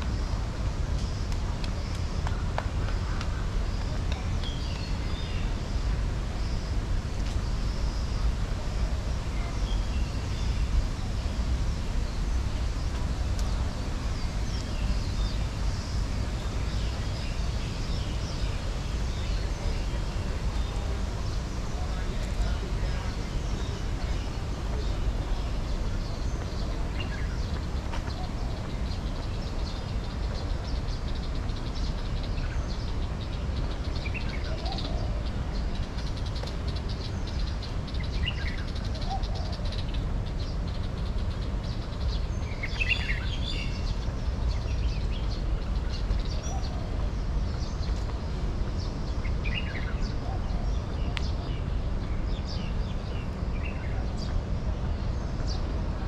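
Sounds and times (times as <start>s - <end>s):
birds chirping: 0.0s - 56.0s
steady low rumble: 0.0s - 56.0s.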